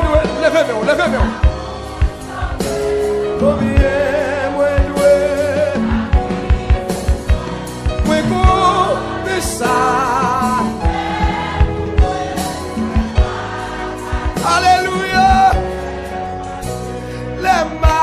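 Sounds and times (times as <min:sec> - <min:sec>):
band with drum beat: 0:00.0 - 0:18.0
voices singing gospel: 0:00.0 - 0:18.0.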